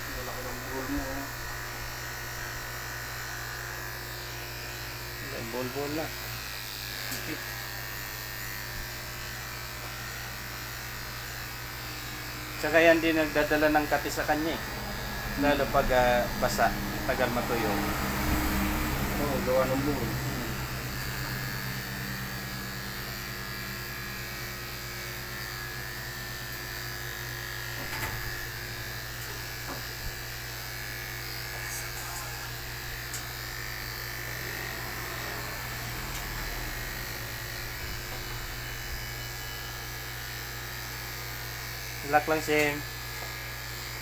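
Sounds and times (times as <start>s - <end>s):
electric clipper buzzing: 0.0s - 44.0s.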